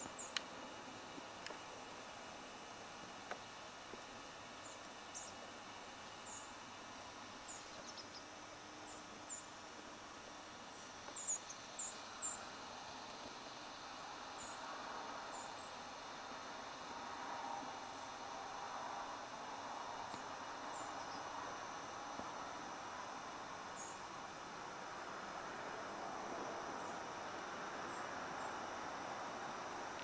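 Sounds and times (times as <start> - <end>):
faint woodland hiss: 0.0 - 30.0.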